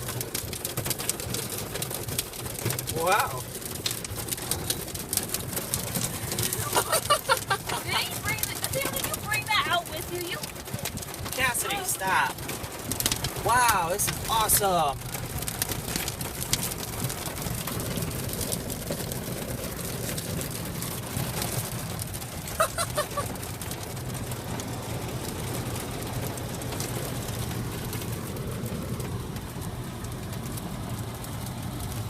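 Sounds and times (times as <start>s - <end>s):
engine and road noise: 0.0s - 32.0s
heavy rain on car roof: 0.0s - 32.0s.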